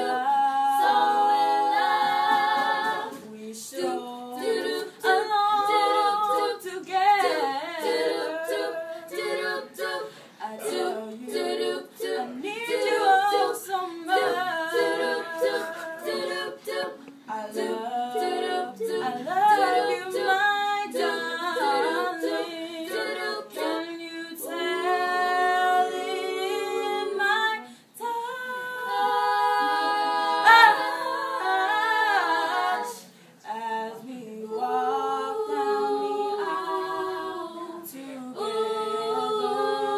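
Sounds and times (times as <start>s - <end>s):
girls singing a cappella: 0.0s - 39.9s.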